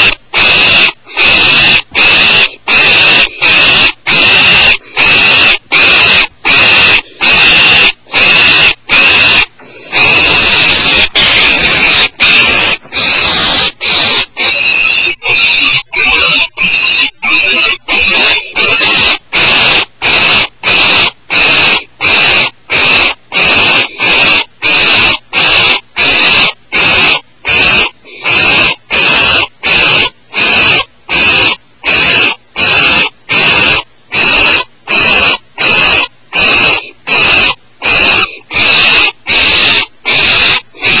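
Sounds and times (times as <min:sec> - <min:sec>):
barn owl hissing calls: 0:00.0 - 0:41.0.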